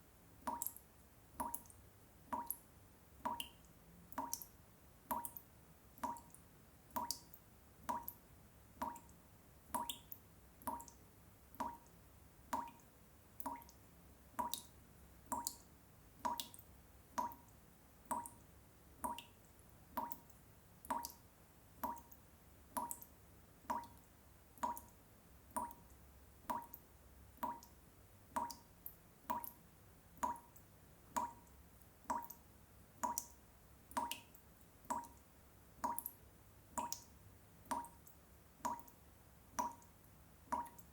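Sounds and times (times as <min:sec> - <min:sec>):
water dripping: 0:00.4 - 0:40.9.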